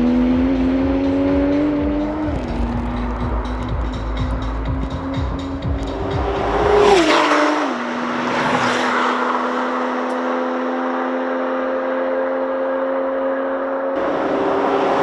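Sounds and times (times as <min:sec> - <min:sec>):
racing car engines at full throttle: 0:00.0 - 0:15.0.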